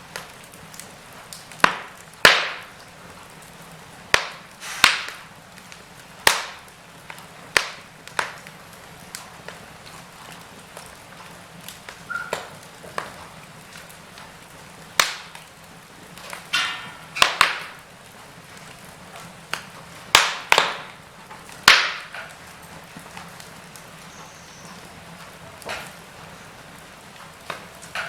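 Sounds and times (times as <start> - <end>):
faint steady hiss: 0.0 - 28.0
wood fire crackling: 0.0 - 28.0.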